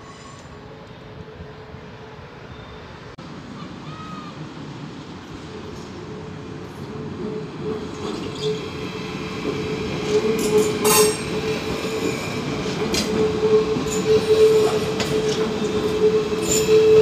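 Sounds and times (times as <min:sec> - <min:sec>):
train wheels rumbling: 0:03.0 - 0:17.0.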